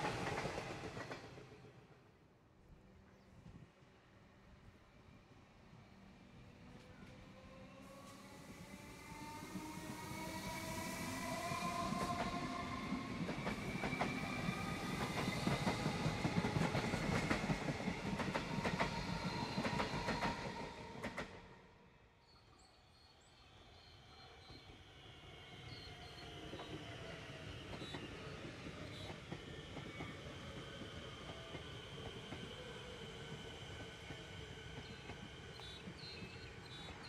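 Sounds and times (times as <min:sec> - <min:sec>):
distant electric train approaching: 0:00.0 - 0:02.2, 0:04.0 - 0:37.0.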